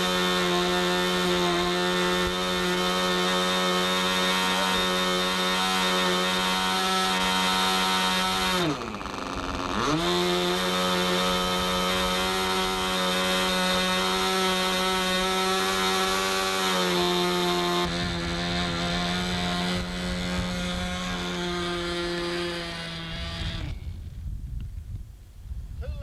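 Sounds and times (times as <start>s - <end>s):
model airplane engine buzzing: 0.0s - 24.1s.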